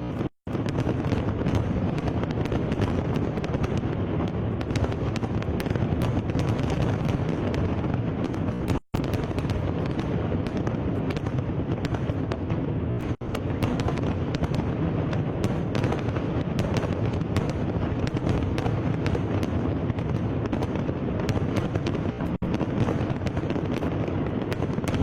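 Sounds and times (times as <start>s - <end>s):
fireworks rumbling and crackling: 0.0s - 25.0s.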